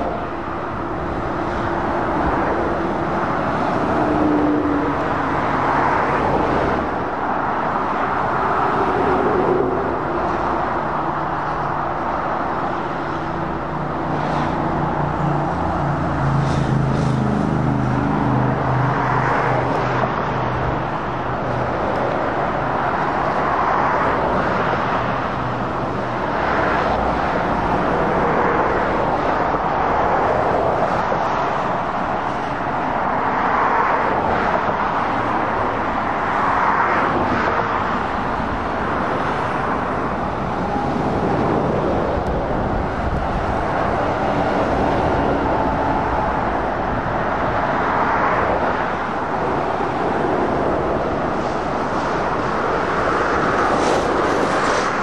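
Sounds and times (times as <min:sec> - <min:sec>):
traffic tyre noise: 0:00.0 - 0:55.0.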